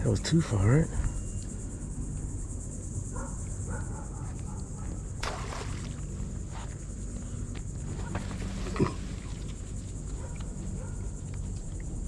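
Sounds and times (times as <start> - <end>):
insects buzzing: 0.0 - 12.0
low background rumble: 0.0 - 12.0.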